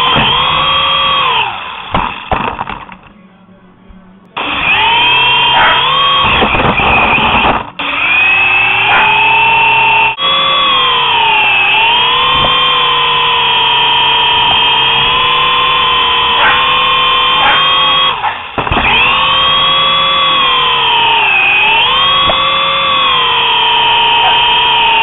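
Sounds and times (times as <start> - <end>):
toy helicopter rotor motor whining: 0.0 - 2.3, 4.4 - 25.0.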